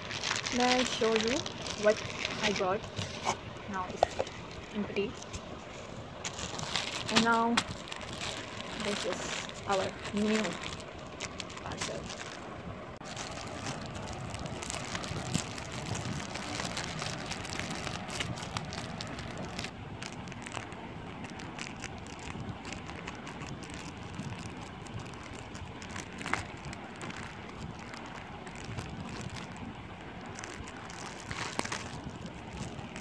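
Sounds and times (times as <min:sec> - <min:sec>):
plastic wrapping crinkling: 0:00.0 - 0:05.6, 0:06.2 - 0:33.0.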